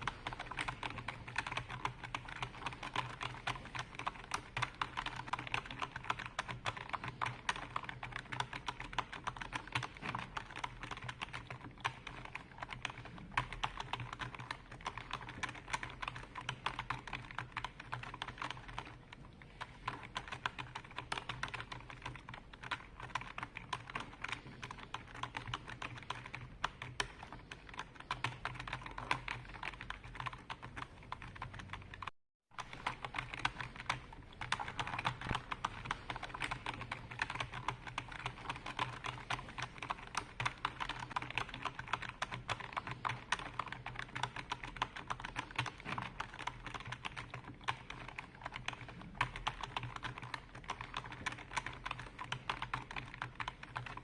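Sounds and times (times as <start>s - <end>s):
fast typing on keyboard: 0.0s - 54.0s.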